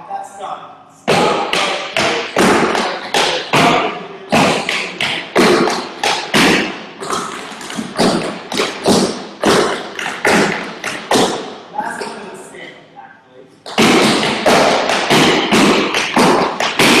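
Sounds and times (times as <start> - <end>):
tap shoes on wooden boards: 1.1 - 11.4, 13.7 - 17.0.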